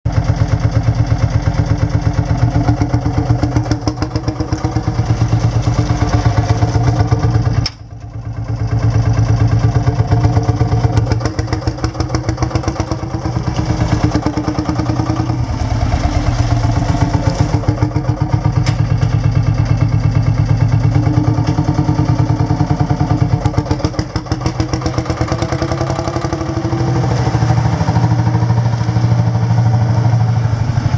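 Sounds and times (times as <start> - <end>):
tractor engine pulsing: 0.0 - 30.9.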